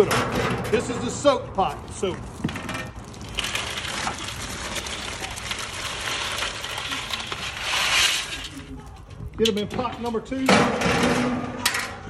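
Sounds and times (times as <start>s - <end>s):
crawfish shells rattling against metal: 0.0s - 10.6s.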